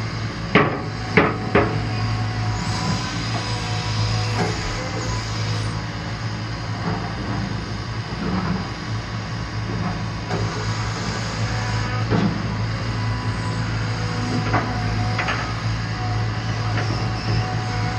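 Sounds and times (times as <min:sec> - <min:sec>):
excavator engine hum: 0:00.0 - 0:17.9.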